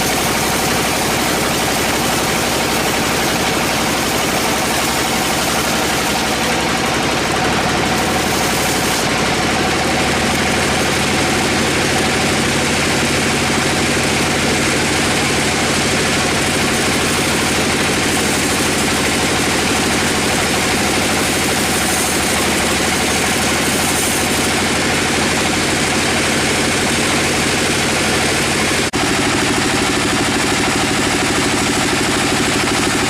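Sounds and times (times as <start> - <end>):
sawmill machinery droning: 0.0 - 33.0.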